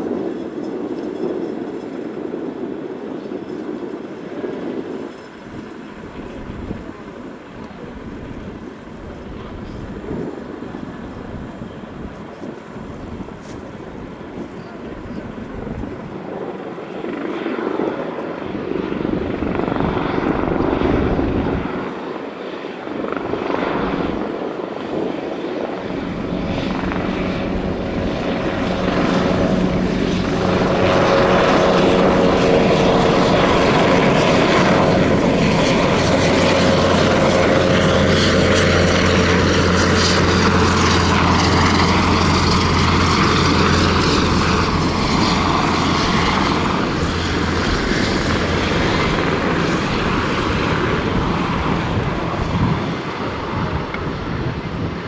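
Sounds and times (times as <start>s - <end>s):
helicopter rotor and turbine noise: 0.0s - 55.0s.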